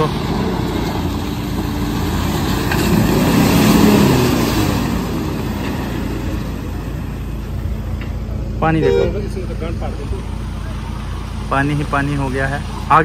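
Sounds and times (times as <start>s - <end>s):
vehicle driving through mud and water: 0.0s - 13.0s.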